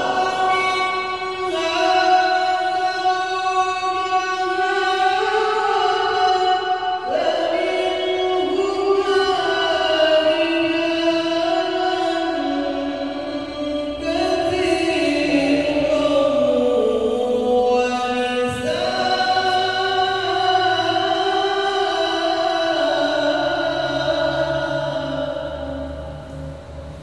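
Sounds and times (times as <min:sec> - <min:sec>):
man chanting into a microphone: 0:00.0 - 0:27.0.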